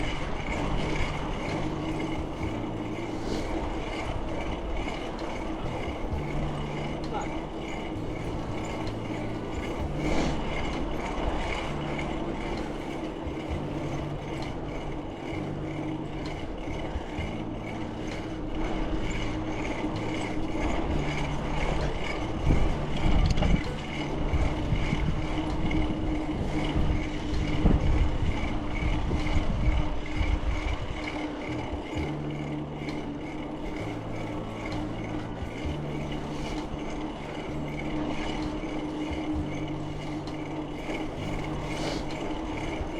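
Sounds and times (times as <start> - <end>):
steady hum: 0.0 - 42.9
tyre and road rumble: 0.0 - 42.9
wind buffeting microphone: 0.0 - 42.9.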